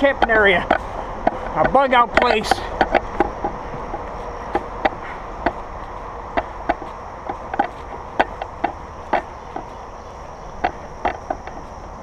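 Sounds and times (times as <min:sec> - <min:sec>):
backpack gear knocking: 0:00.0 - 0:05.7, 0:06.3 - 0:11.7
footsteps in woods: 0:00.0 - 0:12.0.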